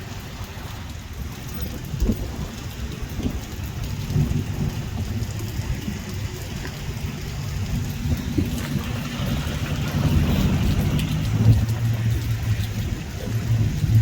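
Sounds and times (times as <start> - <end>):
low rumble: 0.0 - 14.0
rain falling: 0.0 - 14.0.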